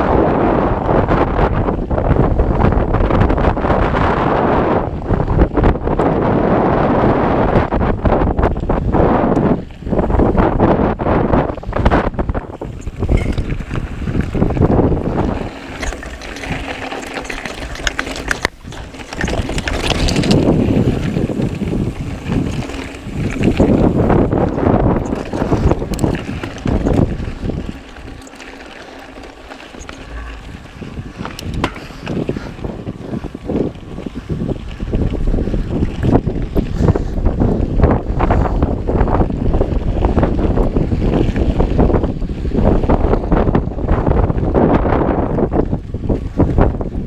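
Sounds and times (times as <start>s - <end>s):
bike rattling over rough trail: 0.0s - 47.0s
wind buffeting microphone: 0.0s - 47.0s.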